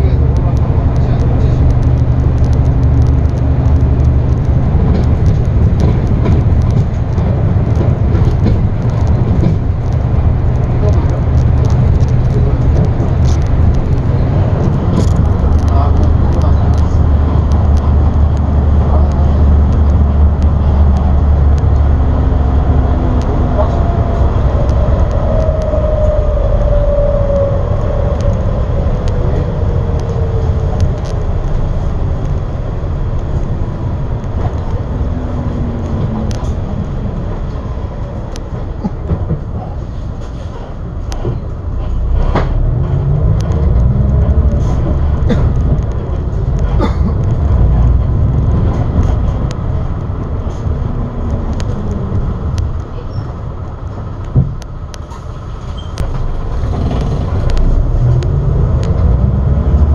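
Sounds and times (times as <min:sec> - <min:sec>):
small rattles and clicks: 0:00.0 - 0:41.4, 0:42.3 - 0:59.1
bus engine and road rumble: 0:00.0 - 0:59.9
engine whine: 0:00.0 - 0:59.9.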